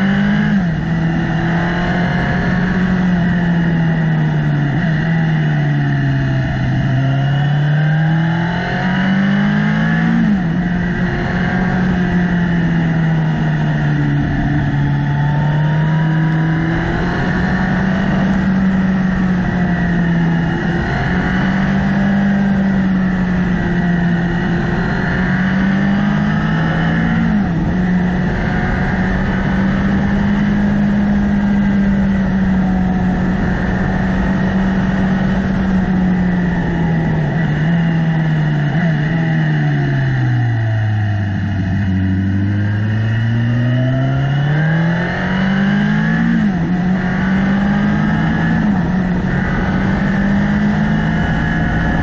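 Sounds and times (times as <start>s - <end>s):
motorcycle engine revving: 0.0s - 52.0s
wind noise: 0.0s - 52.0s.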